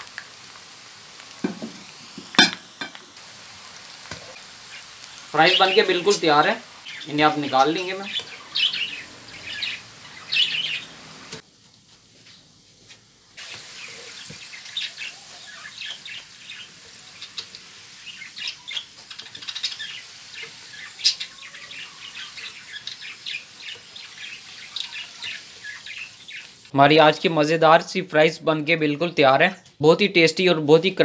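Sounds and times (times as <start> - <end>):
oil sizzling and crackling: 0.0 - 28.0.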